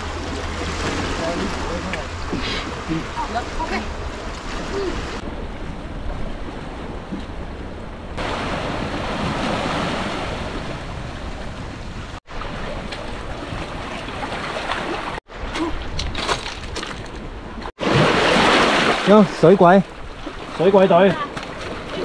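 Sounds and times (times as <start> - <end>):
sea waves on shore: 0.0 - 16.0, 17.2 - 22.0
wind rumbling on microphone: 0.0 - 18.8.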